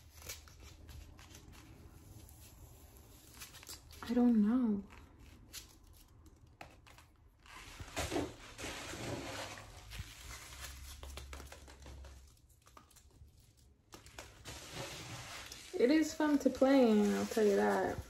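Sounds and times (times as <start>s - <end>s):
packing material crinkling: 0.0s - 18.0s.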